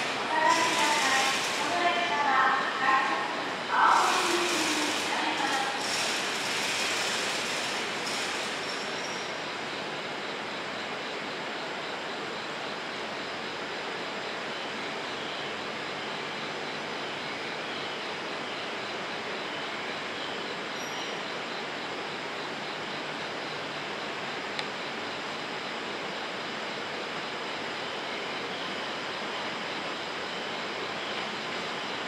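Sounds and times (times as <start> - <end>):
train running gear hum: 0.0 - 32.0.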